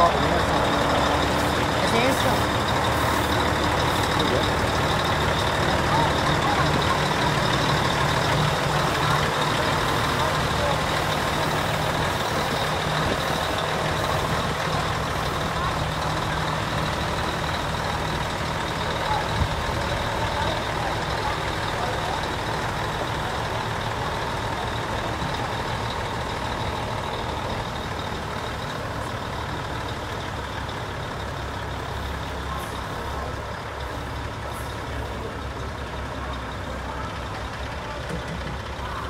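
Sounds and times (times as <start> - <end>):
diesel truck engines idling: 0.0 - 39.0.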